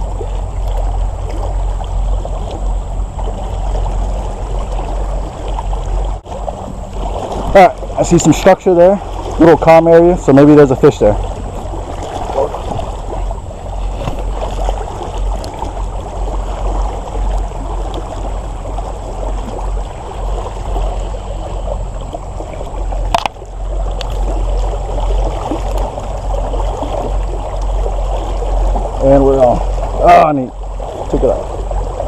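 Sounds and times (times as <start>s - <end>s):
creek water rippling: 0.0s - 32.0s
low rumble: 0.0s - 32.0s.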